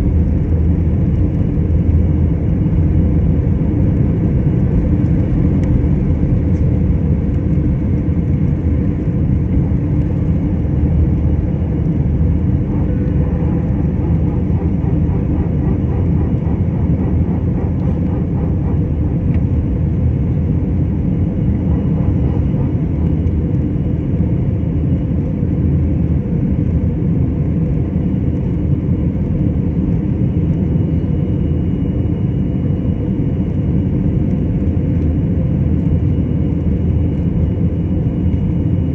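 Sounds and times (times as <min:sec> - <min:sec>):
jet engines rumbling at high thrust: 0:00.0 - 0:38.9.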